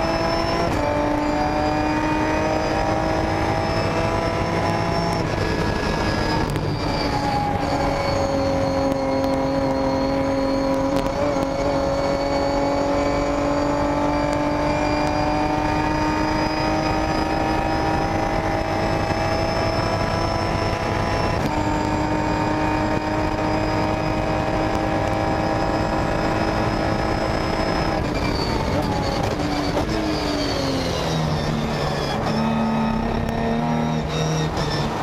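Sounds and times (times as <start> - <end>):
gear upshift: 0.0 - 35.0
race car engine at full throttle: 0.0 - 35.0
road and wind noise: 0.0 - 35.0.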